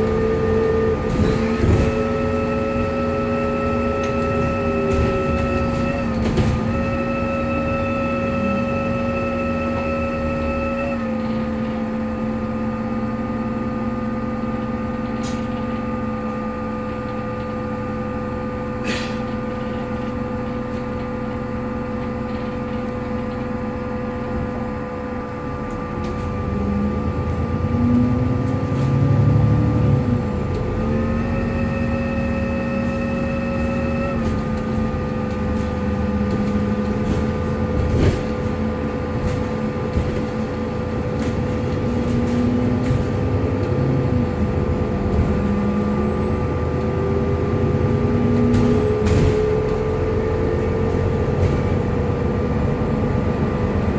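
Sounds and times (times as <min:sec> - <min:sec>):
bus engine: 0:00.0 - 0:53.9
bus whirring whine: 0:00.0 - 0:53.9.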